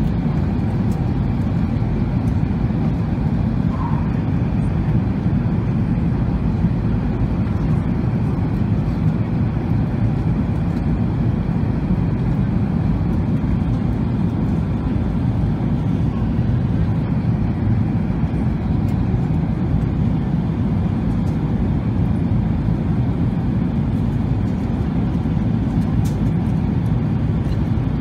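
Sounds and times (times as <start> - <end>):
airplane cabin engine rumble: 0.0 - 28.0.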